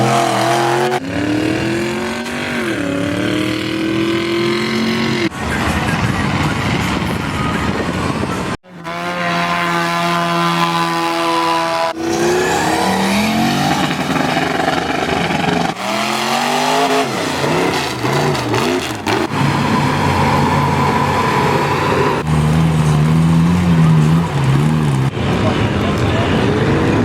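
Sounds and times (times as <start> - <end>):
truck engines revving hard: 0.0 - 27.0.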